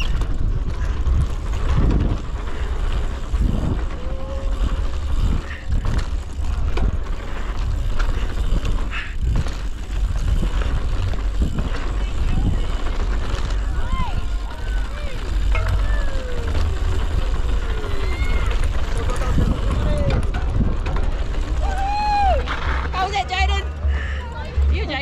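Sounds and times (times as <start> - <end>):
wind buffeting microphone: 0.0 - 22.6
bike rattling on dirt trail: 0.0 - 25.0.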